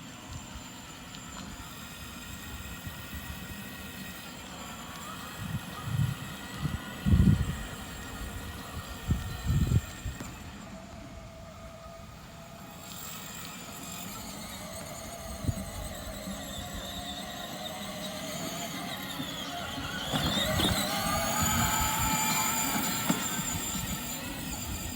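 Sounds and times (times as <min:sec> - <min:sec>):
toy car motor whining: 0:00.0 - 0:24.9.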